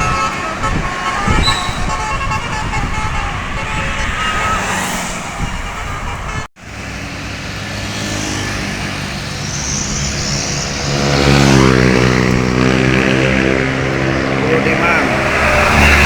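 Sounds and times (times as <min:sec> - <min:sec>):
bus diesel engine drone: 0:00.0 - 0:16.0
roadside traffic noise: 0:00.0 - 0:16.0.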